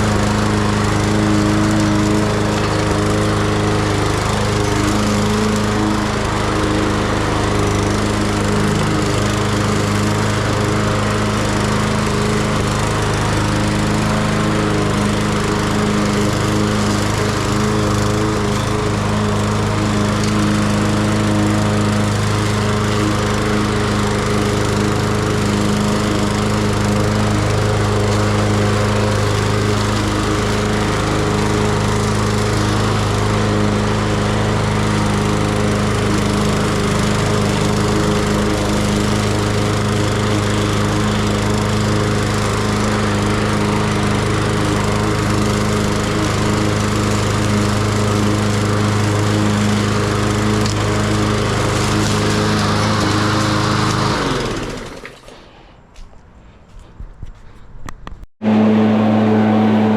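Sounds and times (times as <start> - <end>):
lawn mower engine running: 0.0 - 56.9, 58.4 - 59.9.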